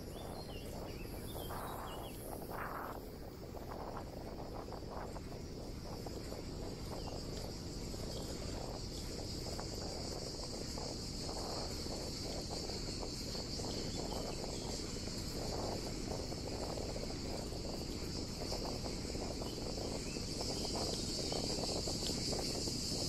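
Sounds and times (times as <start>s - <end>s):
bicycle tyres rolling: 0.0s - 23.0s
insects buzzing: 0.0s - 23.0s
wind rumble: 0.0s - 23.0s.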